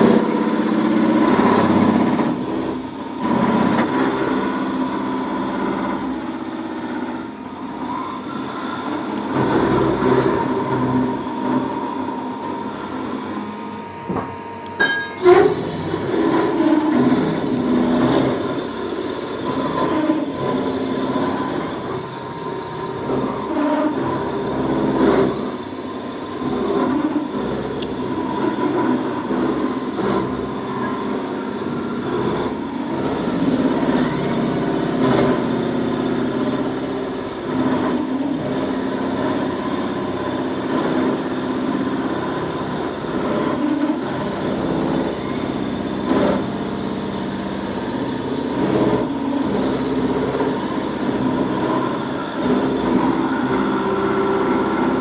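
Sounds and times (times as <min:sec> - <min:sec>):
machinery running: 0:00.0 - 0:55.0.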